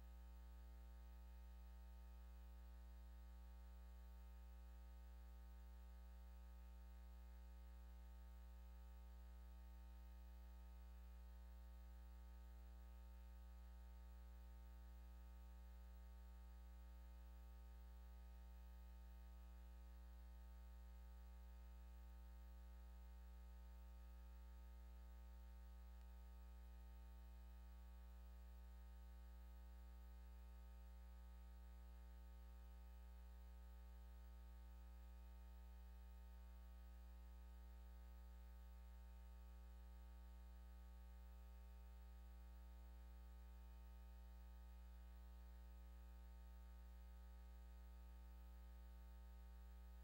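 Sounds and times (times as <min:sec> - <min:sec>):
faint electrical hum: 0:00.0 - 0:50.0.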